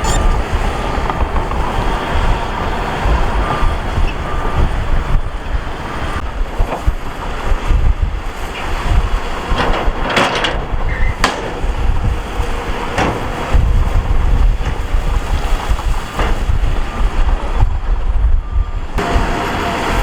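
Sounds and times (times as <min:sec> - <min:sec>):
heavy machinery running: 0:00.0 - 0:20.0
wind buffeting microphone: 0:00.0 - 0:20.0.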